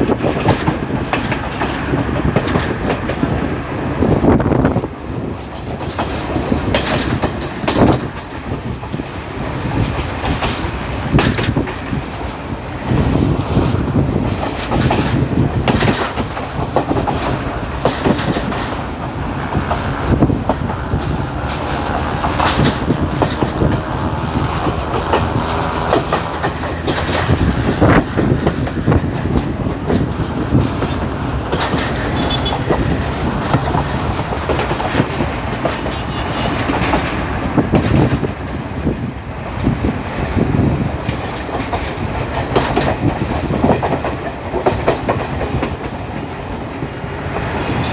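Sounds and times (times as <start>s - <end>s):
train carriage rumble: 0.0s - 47.9s
wheels clattering over rail joints: 0.0s - 47.9s.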